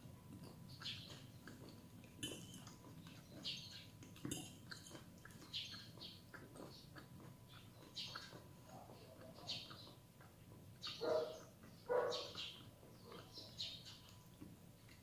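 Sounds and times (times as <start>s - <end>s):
person chewing: 0.3s - 15.0s.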